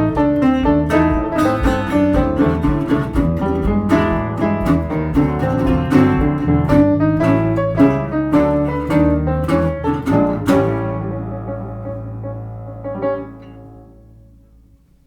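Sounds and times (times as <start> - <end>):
picked acoustic guitar: 0.0 - 15.0
steady bass line: 0.0 - 15.0.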